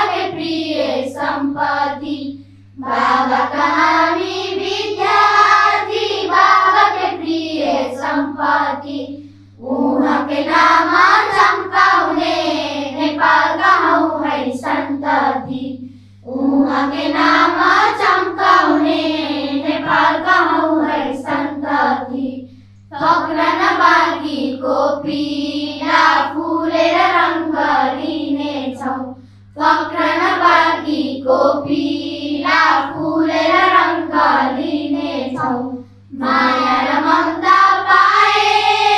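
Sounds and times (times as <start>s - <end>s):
children singing: 0.0s - 9.0s, 9.6s - 15.7s, 16.3s - 38.9s
steady low hum: 0.0s - 38.9s.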